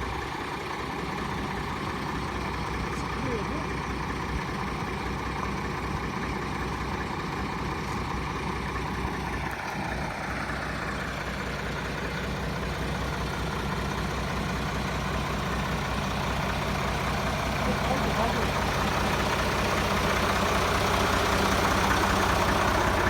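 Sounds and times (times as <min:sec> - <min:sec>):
diesel truck engine under load: 0:00.0 - 0:23.0.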